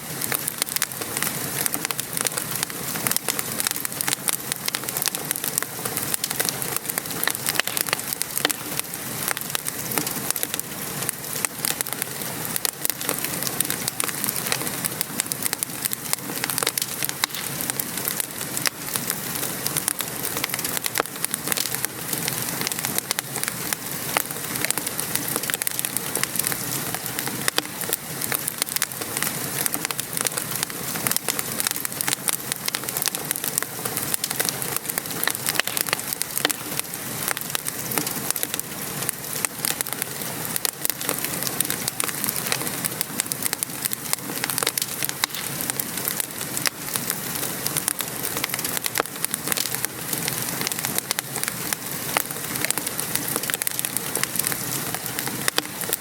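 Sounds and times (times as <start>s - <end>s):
rain patter: 0.0s - 56.0s
wood fire crackling: 0.0s - 56.0s.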